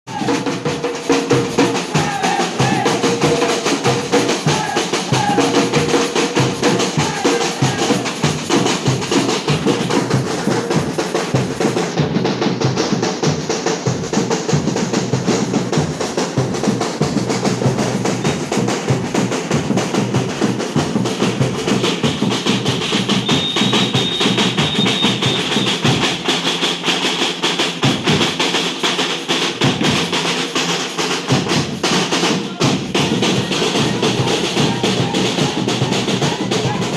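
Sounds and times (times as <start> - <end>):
samba drum ensemble: 0.0 - 36.9.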